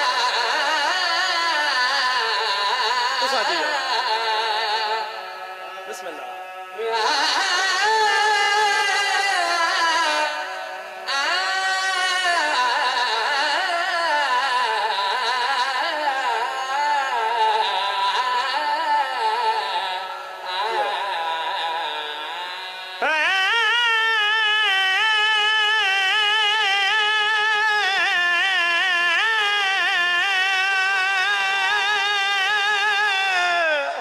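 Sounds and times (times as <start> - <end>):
man singing long notes: 0.0 - 34.0.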